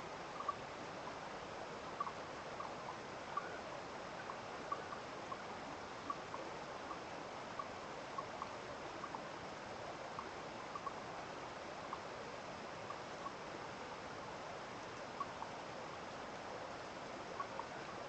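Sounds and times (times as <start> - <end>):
flowing water: 0.0 - 18.0.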